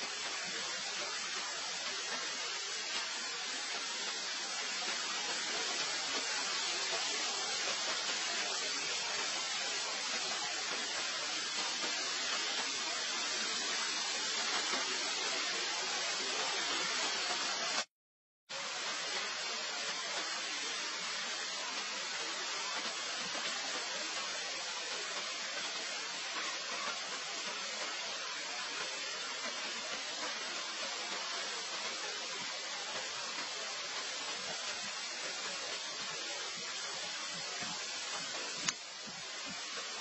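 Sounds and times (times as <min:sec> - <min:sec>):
steady hiss: 0:00.0 - 0:17.9, 0:18.5 - 0:40.0.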